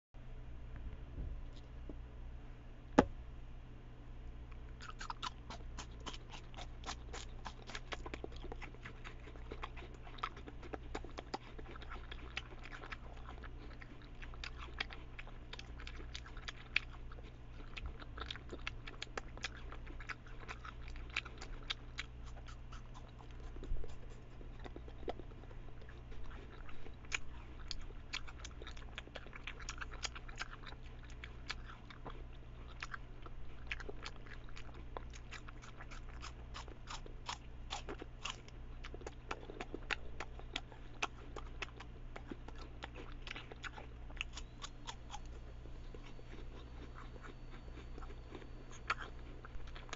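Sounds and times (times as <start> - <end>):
rabbit crunching apple: 4.5 - 49.9.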